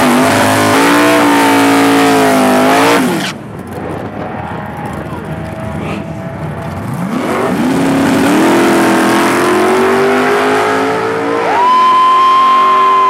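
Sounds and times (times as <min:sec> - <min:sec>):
race cars accelerating: 0:00.0 - 0:13.0.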